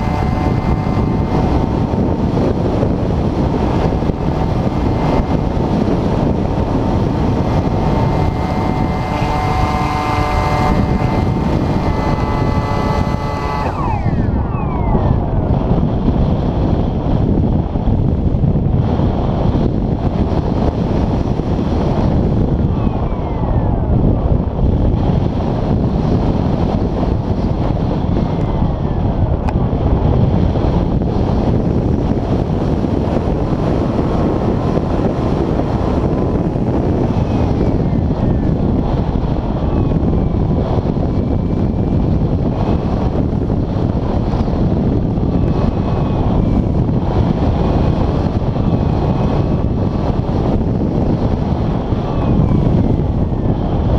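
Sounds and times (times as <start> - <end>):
airflow rushing over microphone: 0.0 - 53.9.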